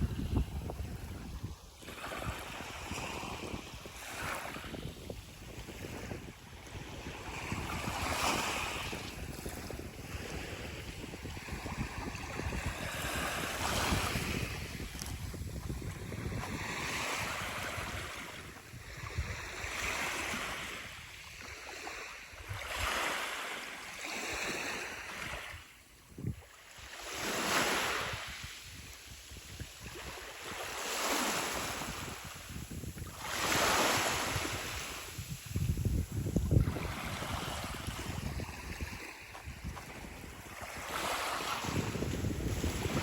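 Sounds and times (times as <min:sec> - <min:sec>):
waves breaking on shore: 0:00.0 - 0:43.0.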